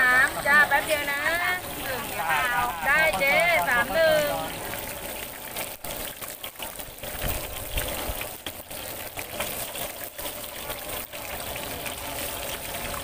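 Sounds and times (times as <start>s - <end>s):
seafood deep-frying in oil: 0.0s - 13.0s.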